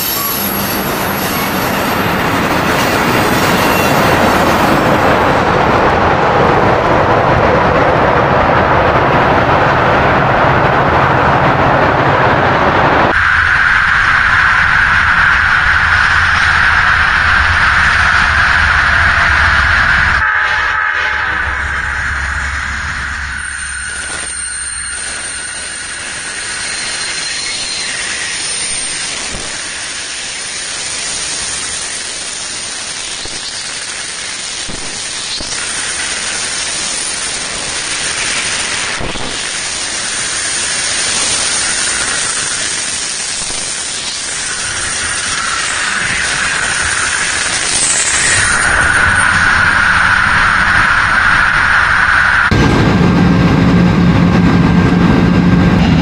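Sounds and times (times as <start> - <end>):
train passing overhead rushing hiss: 0.0 - 12.0, 12.8 - 53.4.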